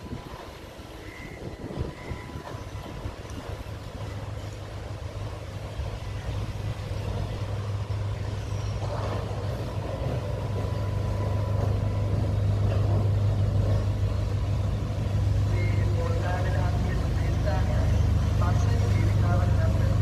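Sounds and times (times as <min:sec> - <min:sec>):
diesel train engine hum: 0:00.0 - 0:20.0.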